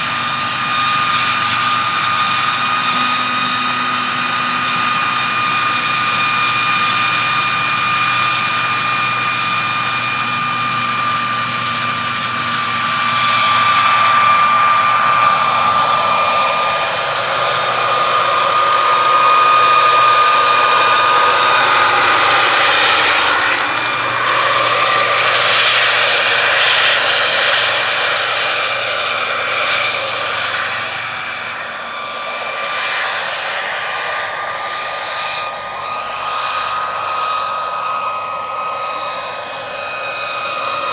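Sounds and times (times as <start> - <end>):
high turbine whine: 0.0 - 40.9
rotor rushing: 0.0 - 40.9.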